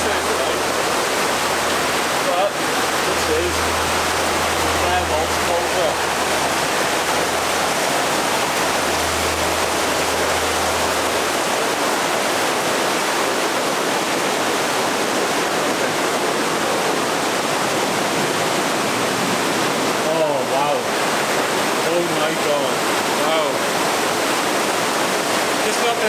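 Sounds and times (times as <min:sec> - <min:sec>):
river rushing through rock gorge: 0:00.0 - 0:26.0.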